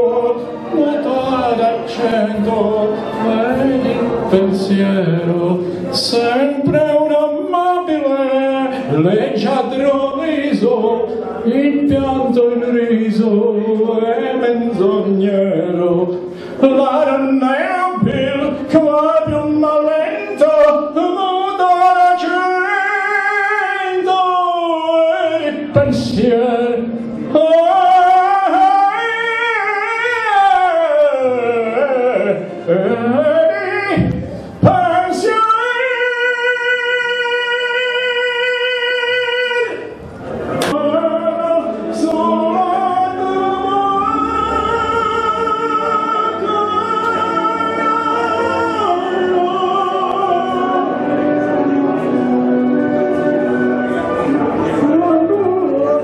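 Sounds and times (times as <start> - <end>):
man singing into a microphone: 0.0 - 56.0.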